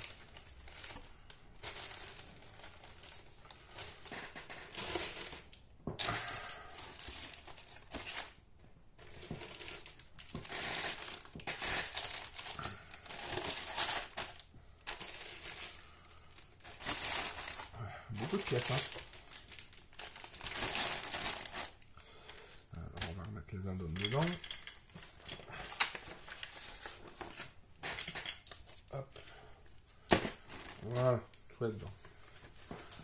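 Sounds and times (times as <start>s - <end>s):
plastic bags crinkling: 0.0s - 33.0s.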